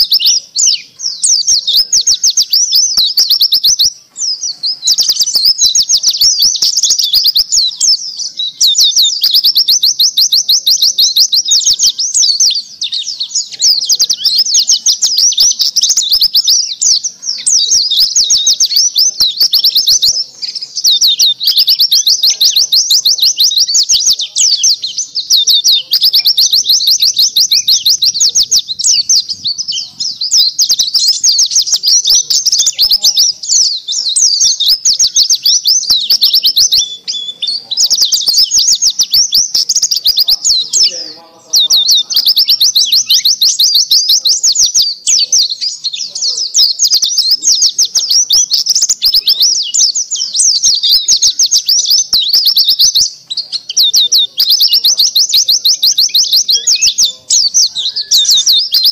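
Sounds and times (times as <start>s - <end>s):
bird twittering song: 0.0s - 58.9s.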